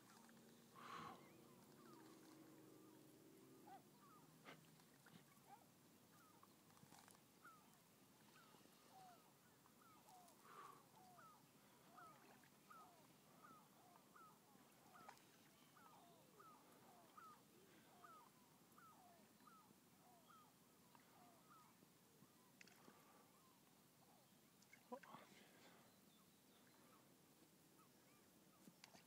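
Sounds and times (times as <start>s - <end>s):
distant birds calling: 0.0s - 29.0s.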